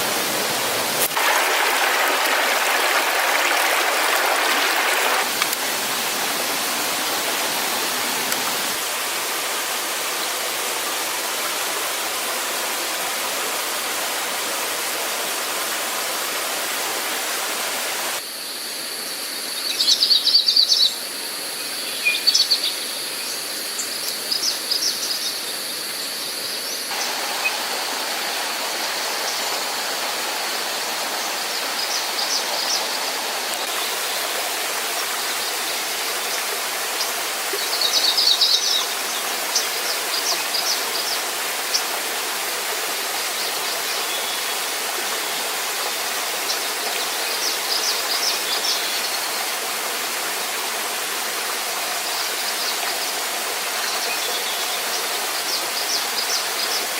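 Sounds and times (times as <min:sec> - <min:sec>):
rushing water: 0:00.0 - 0:18.3, 0:20.0 - 0:56.9.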